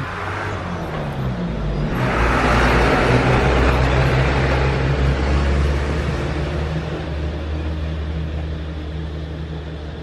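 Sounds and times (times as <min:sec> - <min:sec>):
loud rushing noise: 0:00.0 - 0:10.0
vehicle engine humming: 0:00.0 - 0:10.0.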